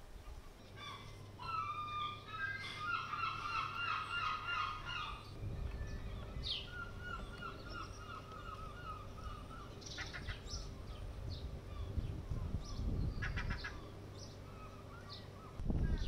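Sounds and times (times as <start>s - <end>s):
seagulls calling: 0.1s - 16.0s.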